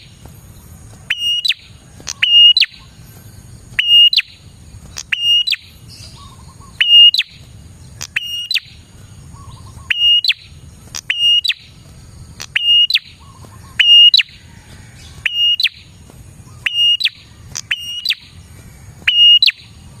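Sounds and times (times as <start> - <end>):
prinia calling high whistles: 0.0 - 11.8, 12.4 - 19.9.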